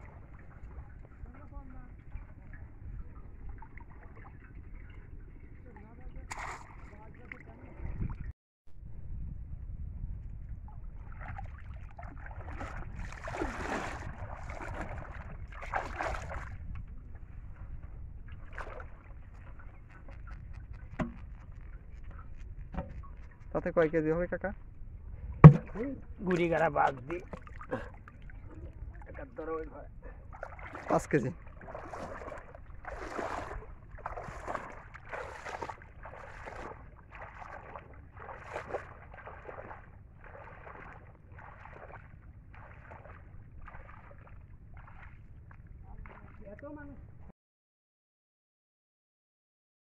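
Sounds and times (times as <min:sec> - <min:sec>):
water sloshing and splashing: 0:00.0 - 0:08.3, 0:10.5 - 0:23.7, 0:25.2 - 0:47.0
low wind rumble on microphone: 0:00.0 - 0:47.3.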